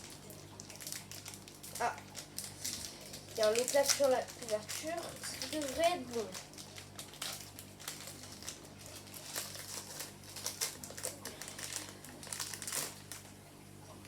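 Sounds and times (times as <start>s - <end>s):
foil wrapper crinkling: 0.0s - 13.4s.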